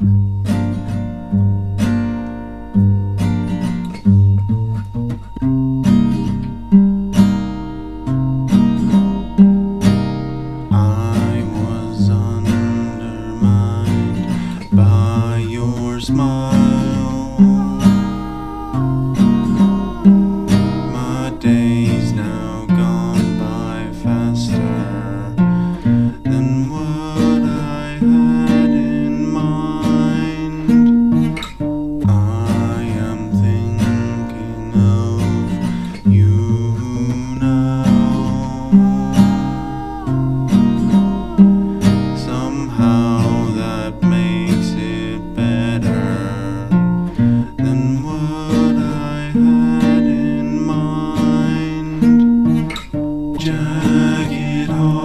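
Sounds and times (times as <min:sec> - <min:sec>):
acoustic guitar picked chords: 0:00.0 - 0:55.0
person singing softly: 0:07.9 - 0:55.0.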